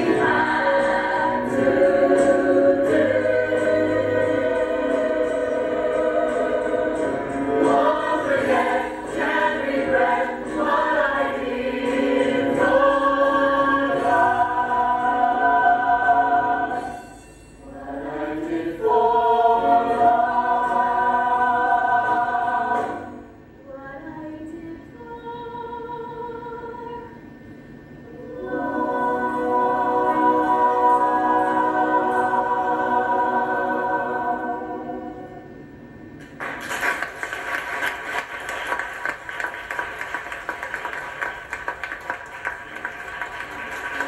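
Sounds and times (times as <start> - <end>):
ensemble singing held chords: 0.0 - 27.4, 28.0 - 36.2.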